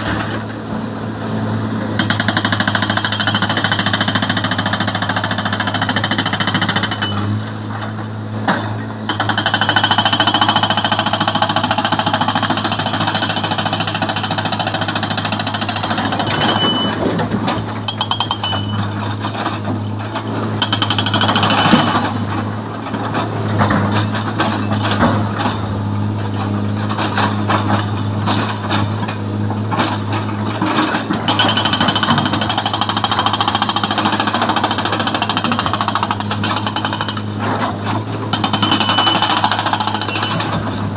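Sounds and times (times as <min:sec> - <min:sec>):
diesel engines droning: 0:00.0 - 0:40.9
hydraulic breaker hammering rock: 0:01.9 - 0:25.8, 0:26.4 - 0:40.9.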